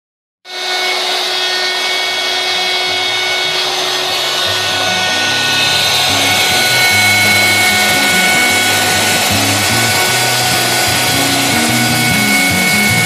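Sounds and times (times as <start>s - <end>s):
router spindle whine: 0.5s - 13.0s
hiss of cutting wood: 0.8s - 13.0s.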